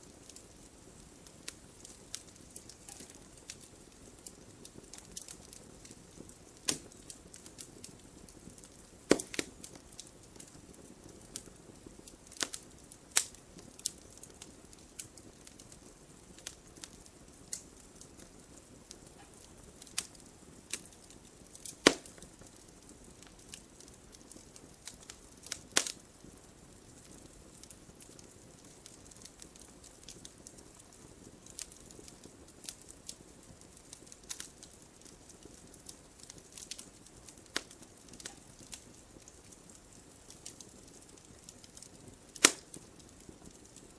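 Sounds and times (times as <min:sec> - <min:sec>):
logs crackling and popping: 0:00.0 - 0:43.9
low rush of flames: 0:00.0 - 0:43.9.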